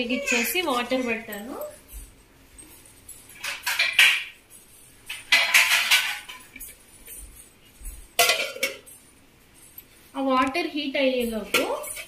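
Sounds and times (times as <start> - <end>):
kitchen utensils clattering: 0.0 - 9.1, 11.2 - 12.0.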